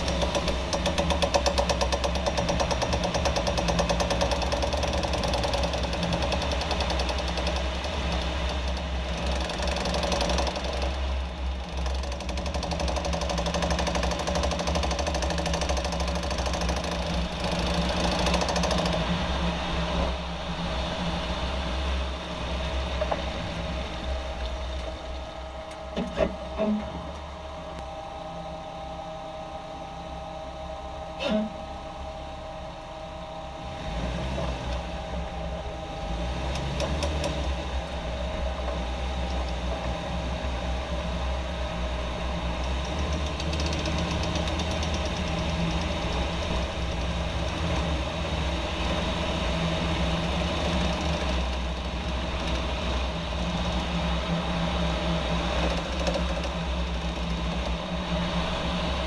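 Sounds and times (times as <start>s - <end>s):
intermittent knocking noise: 0.0s - 28.3s, 33.8s - 59.0s
car engine running: 0.0s - 59.0s.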